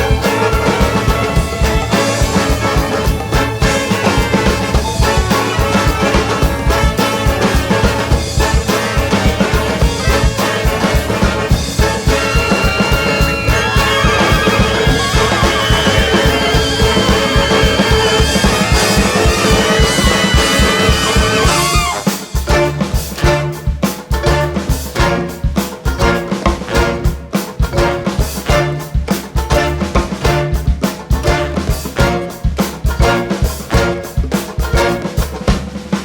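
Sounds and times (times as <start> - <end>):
upbeat background music: 0.0 - 30.6.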